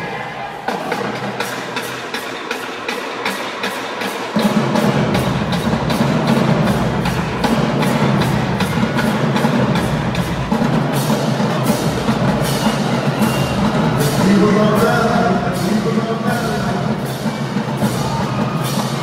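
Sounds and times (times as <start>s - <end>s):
marching band playing: 0.0s - 19.0s
percussion beat: 0.0s - 19.0s.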